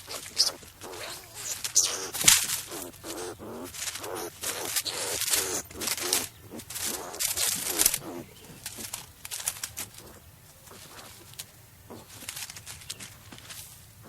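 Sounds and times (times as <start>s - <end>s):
skunk huffing and chattering: 0.0s - 14.0s.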